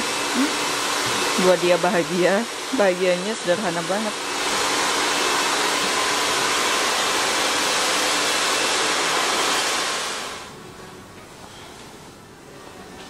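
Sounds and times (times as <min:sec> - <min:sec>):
hair dryer running: 0:00.0 - 0:10.5.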